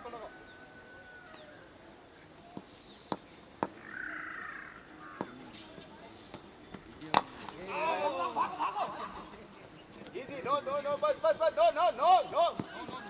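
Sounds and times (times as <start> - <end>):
voices calling out: 0.0 - 13.0.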